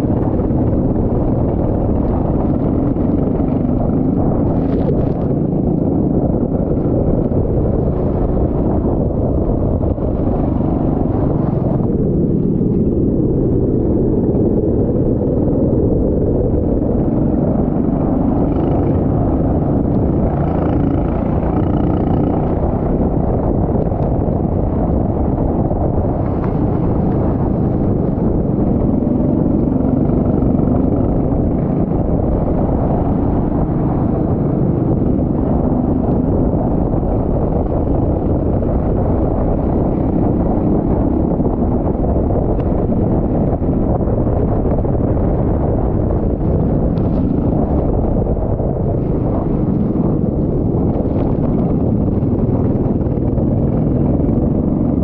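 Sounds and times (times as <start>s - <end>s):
go-kart engine running: 0.0s - 55.0s
wind rumble on microphone: 0.0s - 55.0s.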